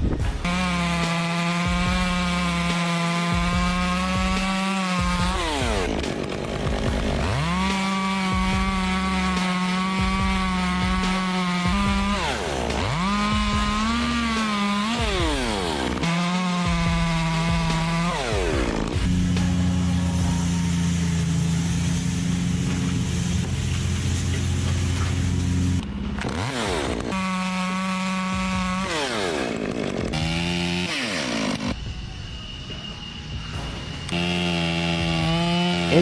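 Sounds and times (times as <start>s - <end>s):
chainsaw cutting wood: 0.0s - 31.8s, 33.6s - 36.0s.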